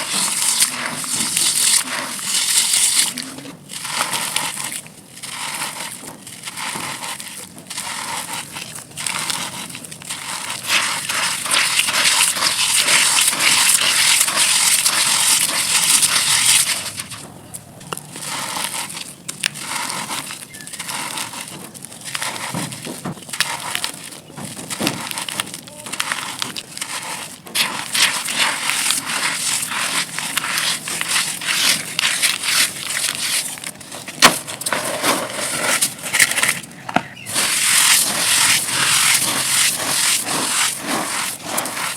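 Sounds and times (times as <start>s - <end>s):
dry dirt chunks crunching: 0.0s - 41.9s.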